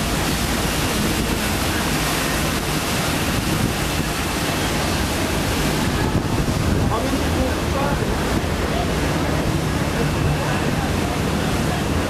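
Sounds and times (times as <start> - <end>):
water from moving boat: 0.0 - 12.0
wind on microphone: 0.0 - 12.0.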